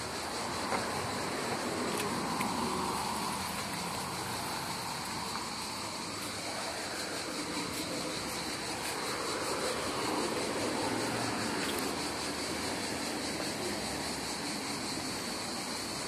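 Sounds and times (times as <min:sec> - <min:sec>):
road traffic hiss: 0:00.0 - 0:16.0.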